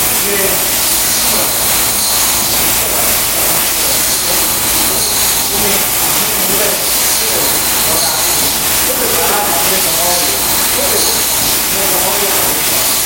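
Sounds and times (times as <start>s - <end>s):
washing jets hissing: 0.0s - 13.0s.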